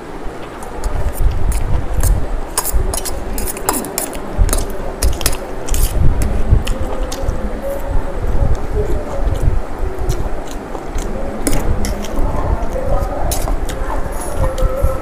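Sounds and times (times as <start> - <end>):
chewing: 0.4 - 7.9, 8.5 - 15.0.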